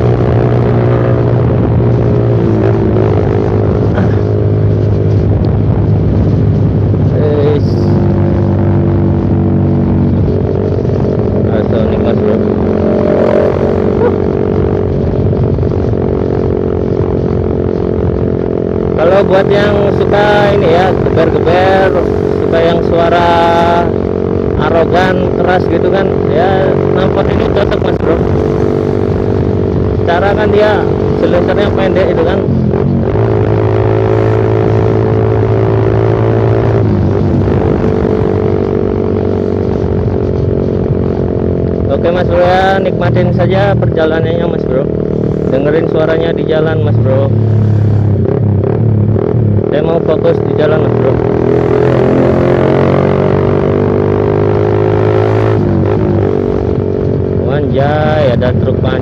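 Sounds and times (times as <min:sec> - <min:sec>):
motorcycle exhaust droning: 0:00.0 - 0:59.0.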